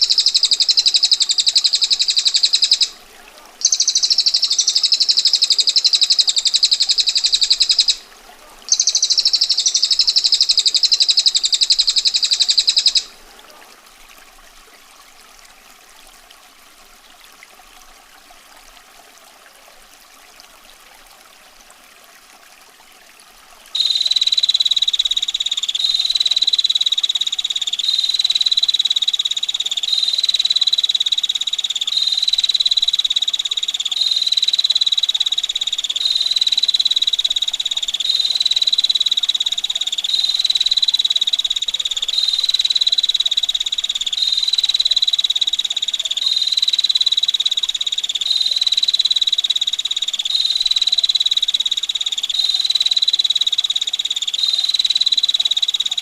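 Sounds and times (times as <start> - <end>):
steady water hiss: 0.0 - 56.0.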